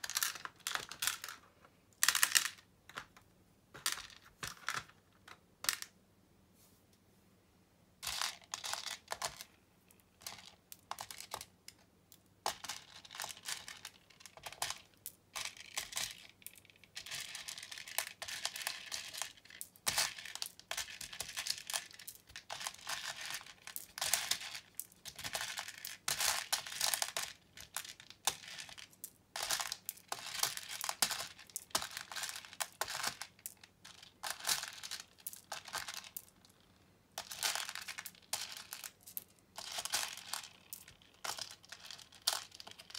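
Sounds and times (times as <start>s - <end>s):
plastic beads rattling: 0.0s - 1.4s, 2.0s - 3.1s, 8.0s - 9.5s, 10.2s - 11.8s, 12.4s - 42.9s.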